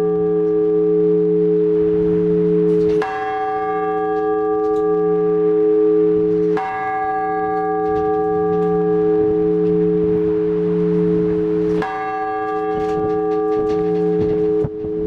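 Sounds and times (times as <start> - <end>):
church bells ringing: 0.0 - 15.0
low hum from bells: 0.0 - 15.0.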